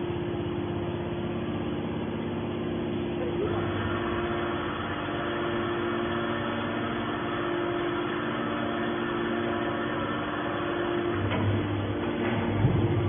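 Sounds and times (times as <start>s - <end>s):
hydraulic machinery humming: 0.0s - 13.0s.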